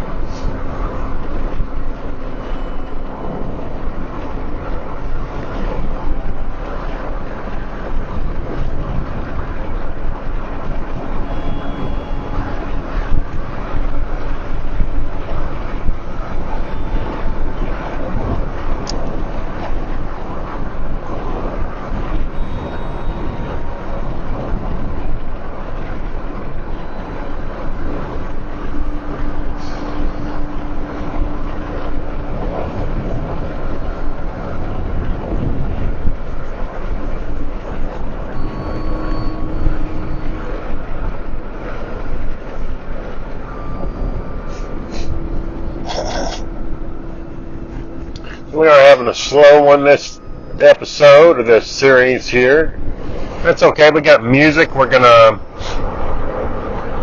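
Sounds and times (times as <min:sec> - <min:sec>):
car driving rumble: 0:00.0 - 0:57.0
faint steady hum: 0:00.0 - 0:57.0.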